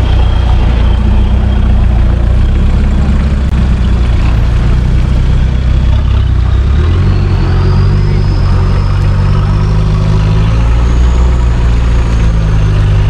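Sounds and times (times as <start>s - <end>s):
off-road vehicle engine at low revs: 0.0s - 13.0s.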